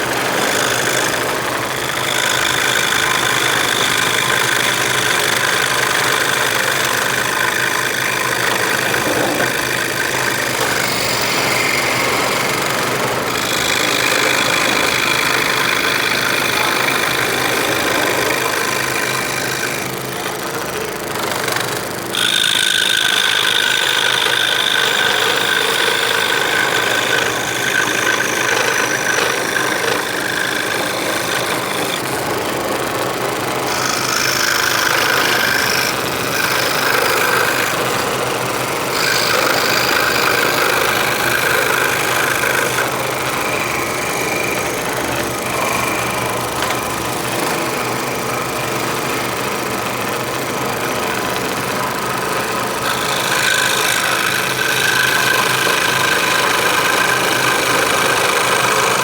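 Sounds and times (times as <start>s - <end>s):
scroll saw cutting wood: 0.0s - 59.0s.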